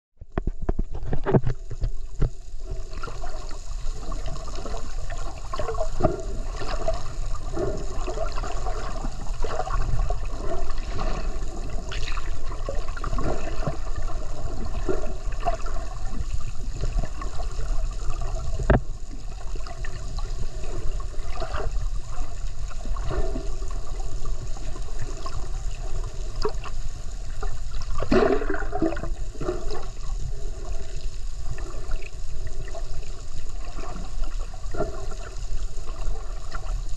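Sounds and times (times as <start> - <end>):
bubbling and gurgling: 0.2 - 36.9
underwater rush: 0.3 - 36.9.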